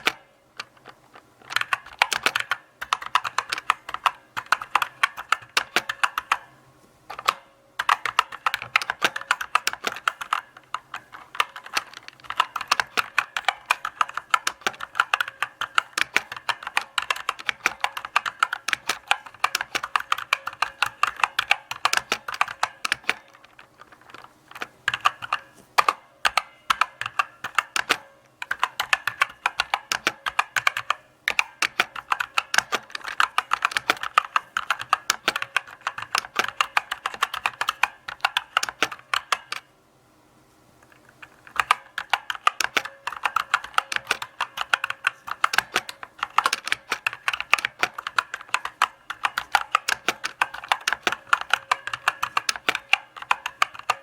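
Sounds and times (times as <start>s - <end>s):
mechanical keyboard typing: 0.0s - 6.5s, 7.1s - 39.7s, 40.9s - 54.0s.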